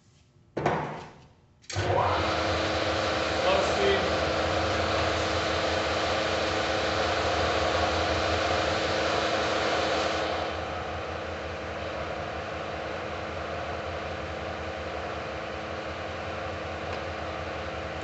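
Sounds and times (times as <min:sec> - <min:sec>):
lathe whirring with gear whine: 0:01.7 - 0:18.0.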